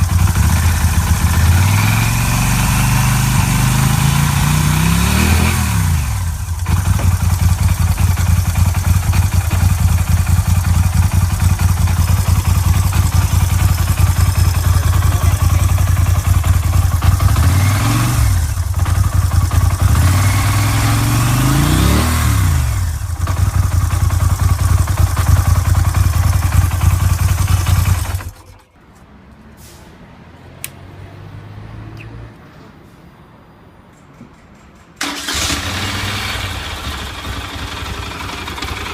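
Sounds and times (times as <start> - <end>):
motorcycle engine revving: 0.0 - 28.6, 35.0 - 38.9.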